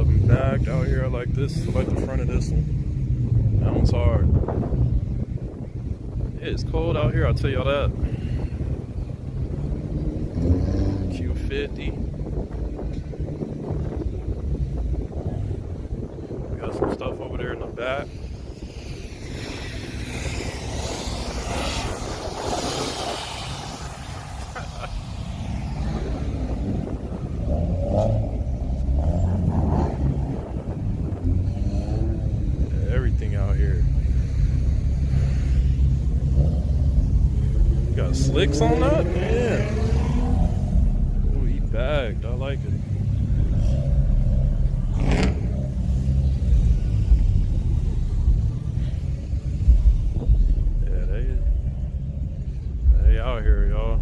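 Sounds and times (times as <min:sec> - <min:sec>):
car engines rumbling: 0:00.0 - 0:54.0.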